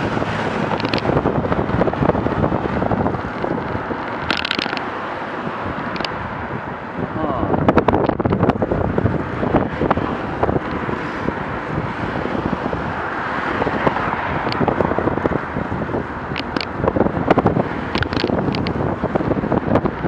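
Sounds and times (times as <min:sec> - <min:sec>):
car traffic: 0:00.0 - 0:20.0
wind on microphone: 0:00.0 - 0:20.0.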